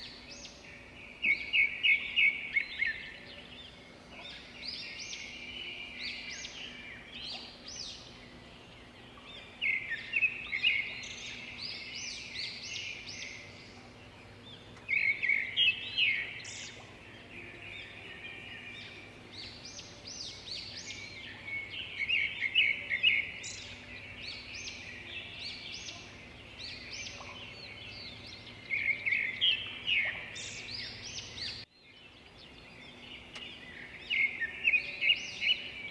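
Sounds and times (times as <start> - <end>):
faint steady hum: 0.0 - 35.9
songbirds chirping and singing: 0.0 - 35.9.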